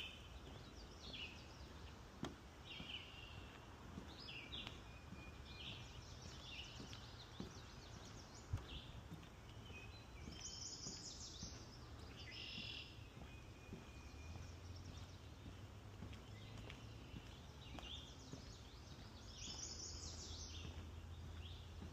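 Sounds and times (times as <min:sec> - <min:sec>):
songbirds singing: 0:00.0 - 0:21.9.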